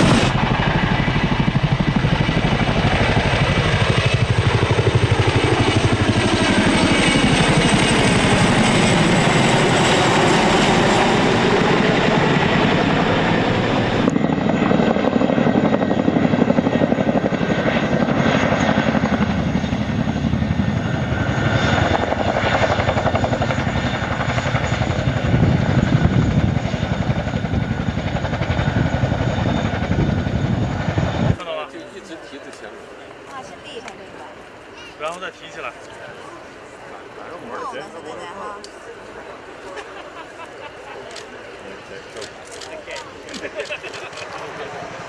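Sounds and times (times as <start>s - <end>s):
helicopter rotor chop: 0.0s - 45.0s
turbine engine whine: 0.0s - 45.0s.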